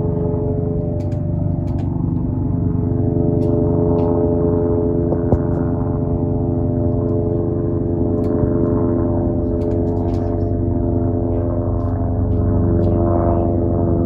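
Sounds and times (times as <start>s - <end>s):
helicopter rotor and turbine: 0.0s - 14.0s.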